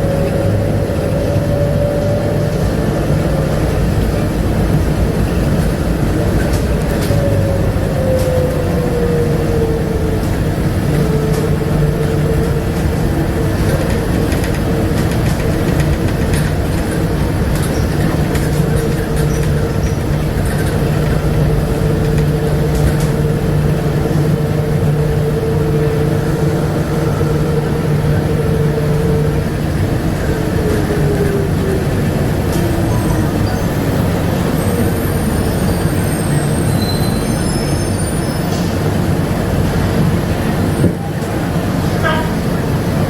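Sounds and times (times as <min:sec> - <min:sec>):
vehicle running rumble: 0:00.0 - 0:43.0.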